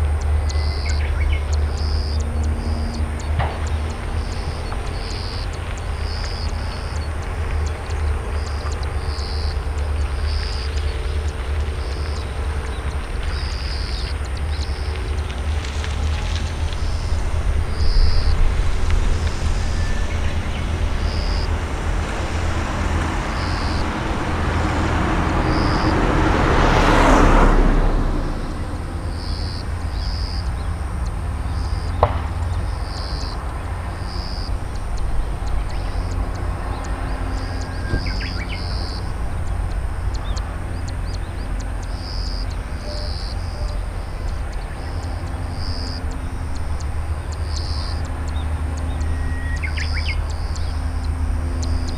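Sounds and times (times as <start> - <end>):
low rumble: 0.0 - 47.4
vehicle passing by: 0.0 - 51.9.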